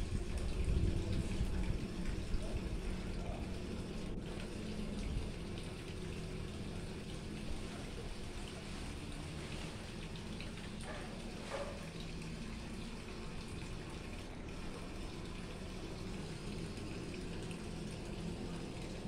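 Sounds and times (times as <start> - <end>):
water running in a pond: 0.0 - 19.0.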